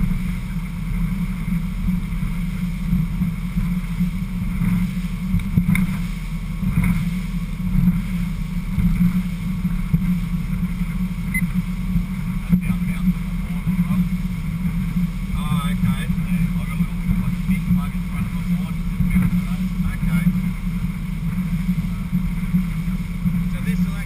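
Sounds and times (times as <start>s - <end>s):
boat outboard motor rumble: 0.0s - 24.0s
water noise: 0.0s - 24.0s
wind: 0.0s - 24.0s.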